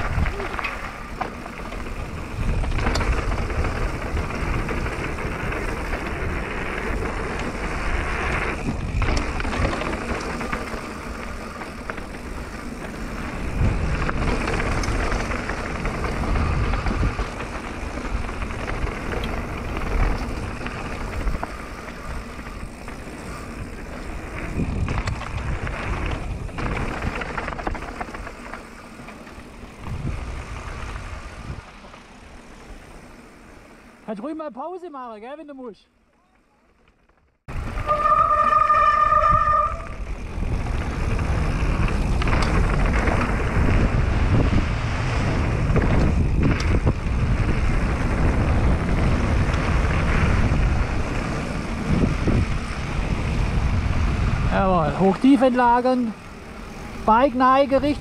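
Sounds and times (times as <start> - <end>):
wind noise on microphone: 0.0 - 28.4, 29.6 - 31.8, 37.5 - 55.4
bike tyres crunching over stones: 0.0 - 34.3, 36.0 - 58.0.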